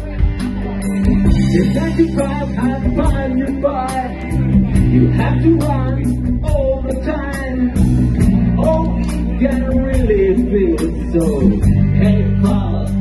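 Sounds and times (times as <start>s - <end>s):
live rock band: 0.0s - 13.0s
wavering lead guitar melody: 0.0s - 13.0s.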